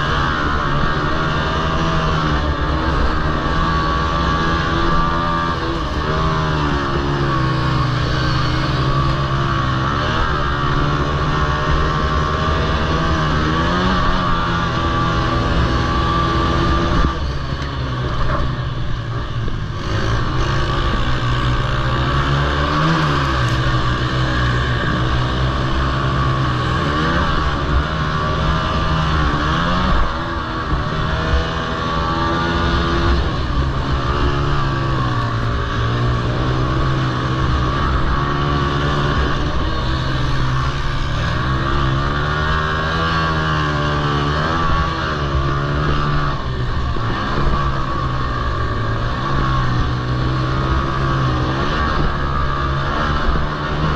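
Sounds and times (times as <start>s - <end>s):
quad bike engines racing: 0.0s - 53.9s.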